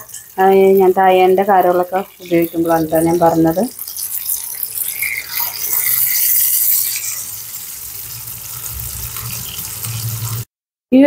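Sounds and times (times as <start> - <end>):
batter sizzling in hot oil: 0.0 - 10.5.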